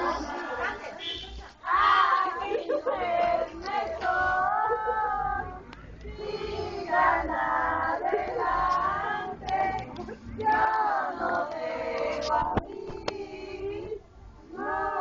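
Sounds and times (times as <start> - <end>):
group singing with children: 0.0 - 15.0.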